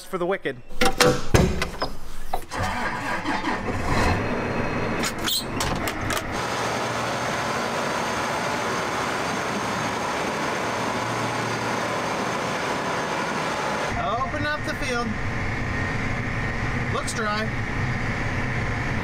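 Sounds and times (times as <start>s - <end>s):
engine starting and running: 2.2s - 19.0s.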